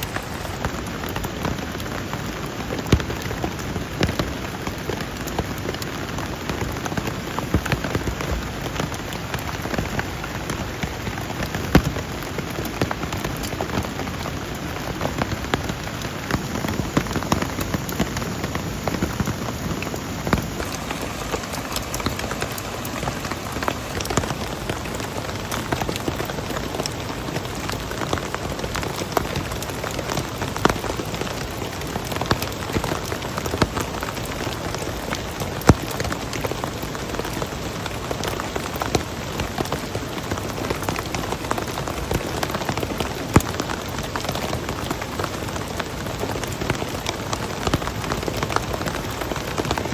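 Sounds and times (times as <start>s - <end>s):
raindrops ticking close by: 0.0s - 49.9s
steady rain: 0.0s - 49.9s.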